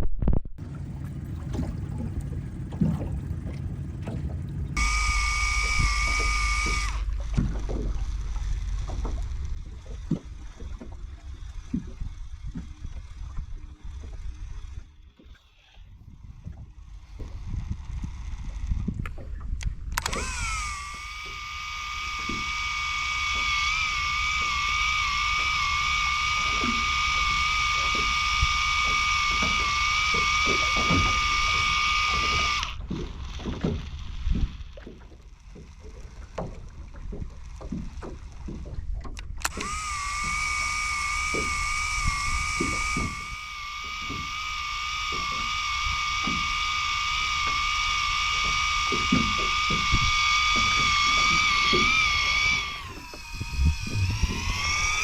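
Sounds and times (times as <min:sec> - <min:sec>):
fishing reel motor whine: 0:03.9 - 0:55.0.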